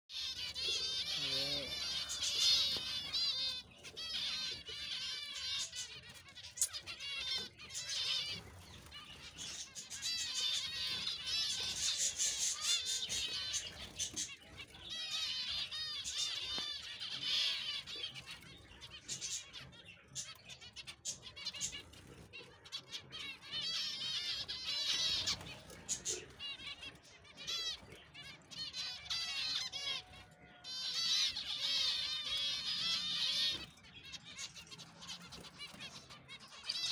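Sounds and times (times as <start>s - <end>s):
finches chattering: 0.1s - 36.9s.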